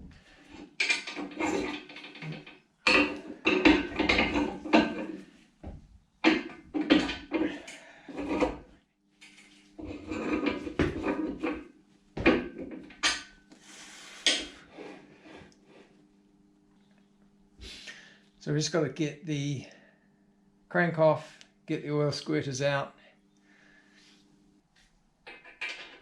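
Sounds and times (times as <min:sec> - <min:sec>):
faint steady hum: 0:00.0 - 0:25.3.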